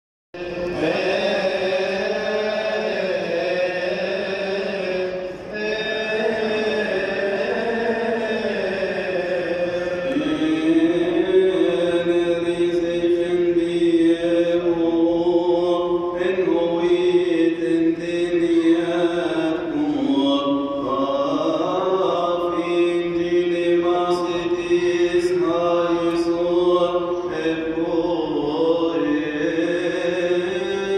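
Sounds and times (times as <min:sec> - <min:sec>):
man chanting into a microphone: 0:00.4 - 0:30.9.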